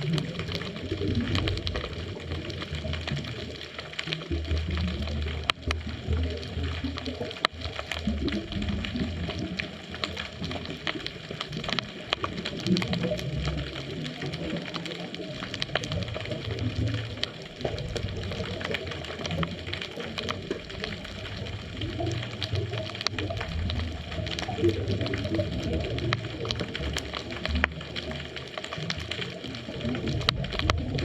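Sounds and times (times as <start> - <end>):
underwater clicks and crackles: 0.0 - 31.0.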